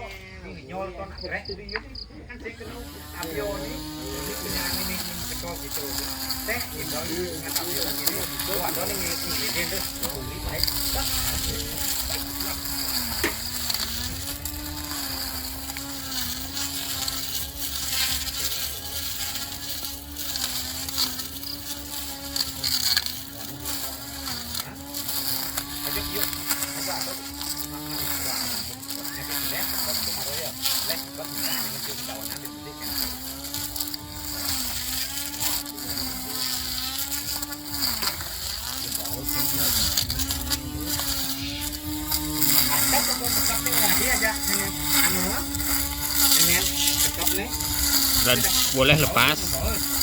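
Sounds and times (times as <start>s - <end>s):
electric grass cutter motor humming: 0.0s - 50.0s.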